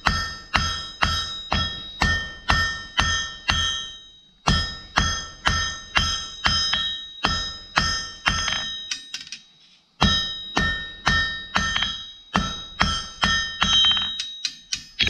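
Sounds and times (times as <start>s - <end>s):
hammer striking anvil: 0.0s - 15.0s.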